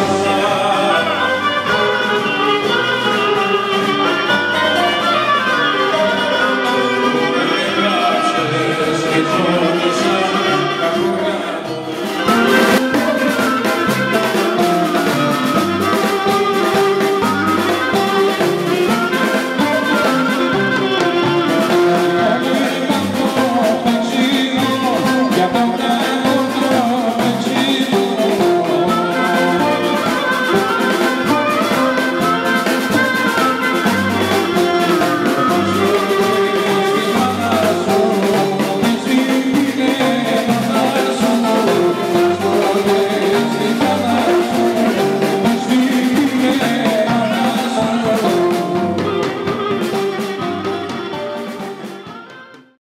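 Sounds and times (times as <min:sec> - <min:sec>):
man singing into a microphone: 0:00.0 - 0:02.4, 0:06.3 - 0:50.1
clarinet: 0:00.0 - 0:52.8
folk dance band music: 0:00.0 - 0:52.8.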